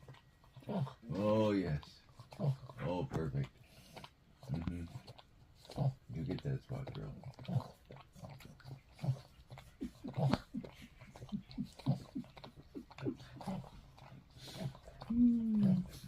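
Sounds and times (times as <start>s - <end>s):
dog licking: 0.0s - 16.0s.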